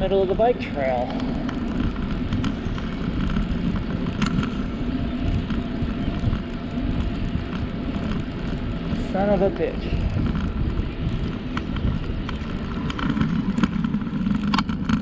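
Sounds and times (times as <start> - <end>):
bicycle tyres on path: 0.0 - 15.0
wind rumble on microphone: 0.0 - 15.0.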